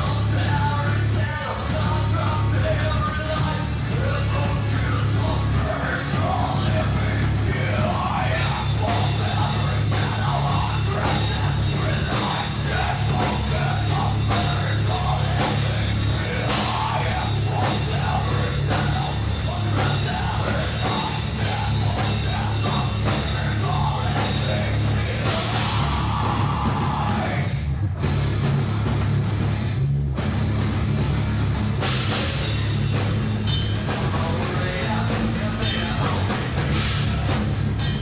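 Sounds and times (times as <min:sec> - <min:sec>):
metal band playing live: 0:00.0 - 0:38.0.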